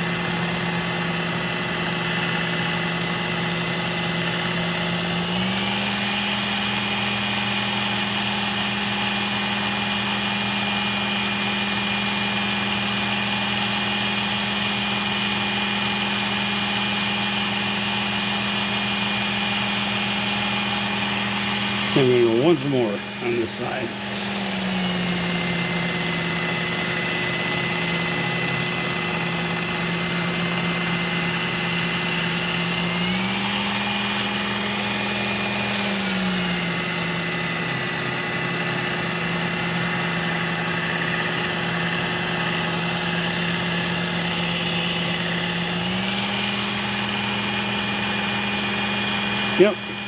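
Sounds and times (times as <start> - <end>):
electric belt sharpener running: 0.0 - 50.0.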